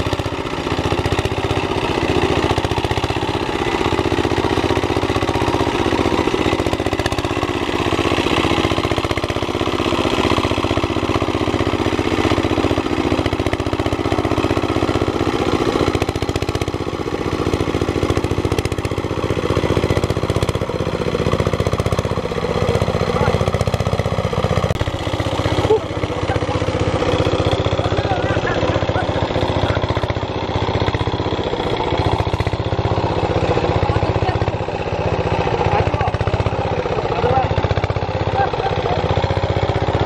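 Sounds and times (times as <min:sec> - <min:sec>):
diesel engine chugging: 0:00.0 - 0:40.0
wheels churning through mud: 0:00.0 - 0:40.0.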